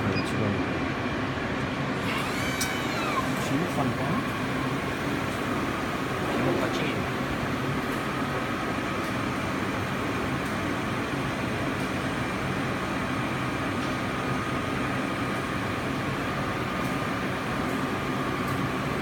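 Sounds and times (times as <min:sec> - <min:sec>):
printer mechanical hum and hiss: 0:00.0 - 0:19.0.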